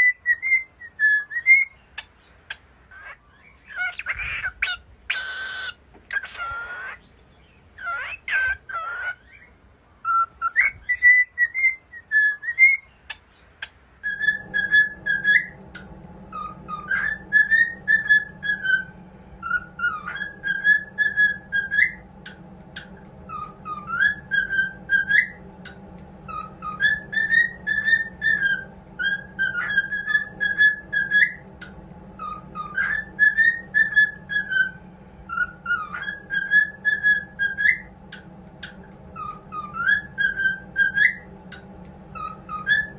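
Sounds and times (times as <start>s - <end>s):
cockatiels whistling: 0.0s - 1.8s, 3.0s - 7.1s, 7.8s - 42.9s
steady low hum: 0.0s - 42.9s.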